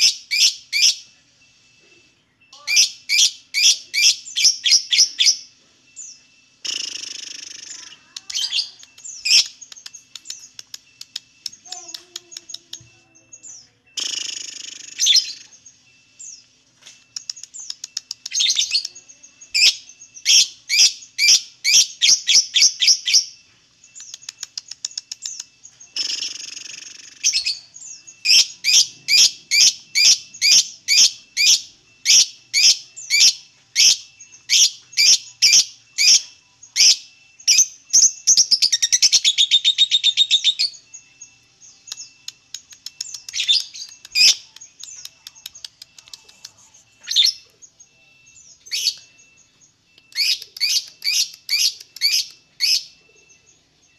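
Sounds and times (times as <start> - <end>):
lovebird chirping: 0.0 - 53.9.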